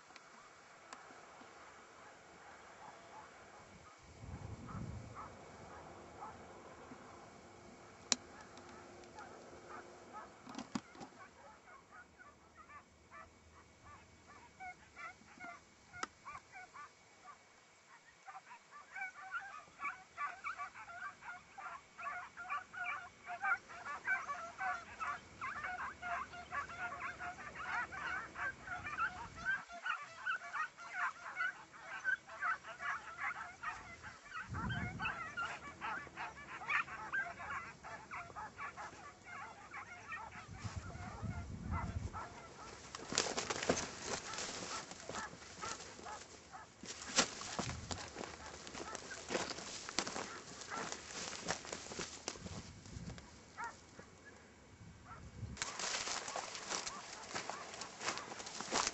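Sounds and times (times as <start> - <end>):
hounds yelping and baying: 0.0 - 58.9.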